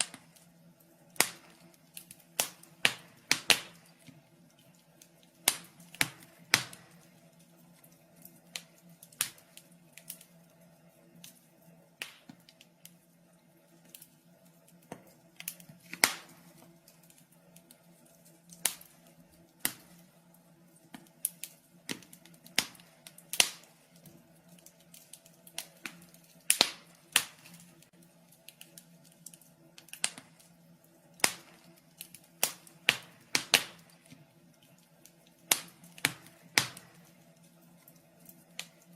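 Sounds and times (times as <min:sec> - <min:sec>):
faint steady hum: 0:00.0 - 0:38.9
wood fire crackling and popping: 0:00.0 - 0:38.9.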